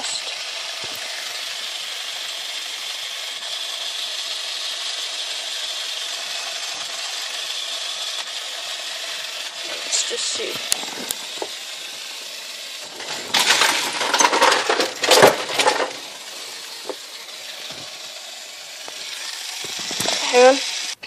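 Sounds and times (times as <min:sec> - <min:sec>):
small electric motor whirring: 0:00.0 - 0:21.0.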